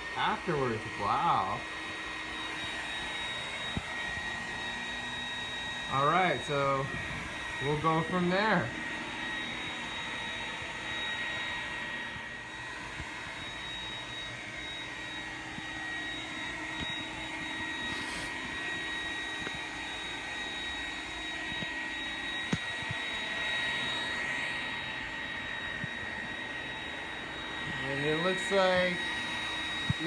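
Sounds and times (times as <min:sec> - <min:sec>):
robot vacuum motor humming: 0:00.0 - 0:30.0.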